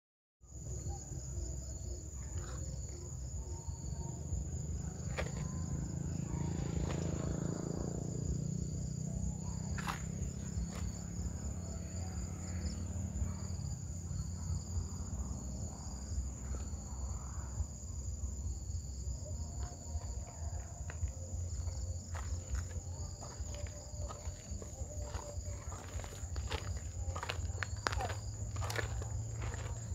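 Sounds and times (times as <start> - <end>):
insects trilling: 0.5 - 29.9.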